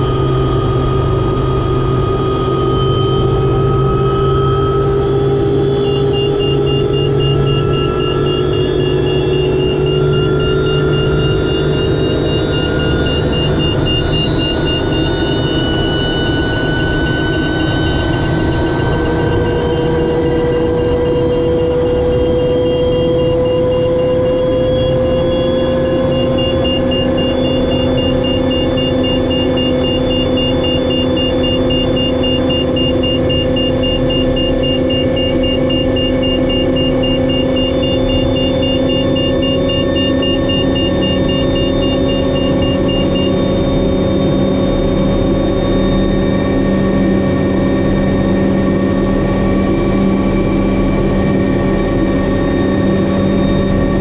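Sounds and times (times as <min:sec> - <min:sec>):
helicopter turbine whine: 0:00.0 - 0:54.0
rapid high beeping: 0:00.0 - 0:54.0.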